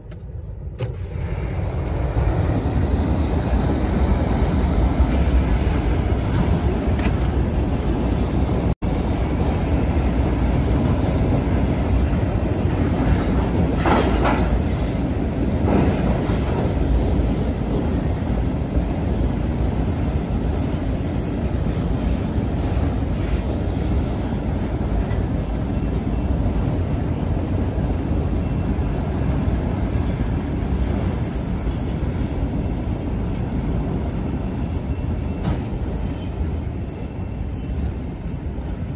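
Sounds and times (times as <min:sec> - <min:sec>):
freight train wheels rumbling on rails: 0:00.0 - 0:38.9.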